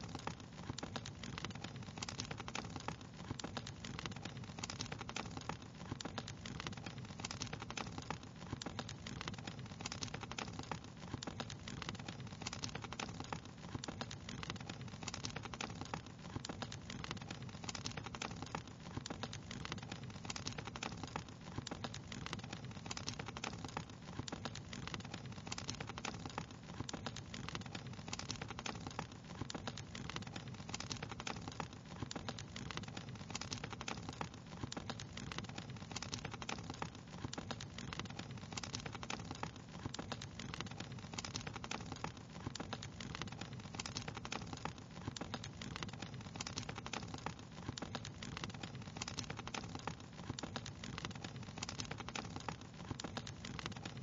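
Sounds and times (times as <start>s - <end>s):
low rumble of fire: 0.0s - 54.0s
wood fire crackling: 0.0s - 54.0s.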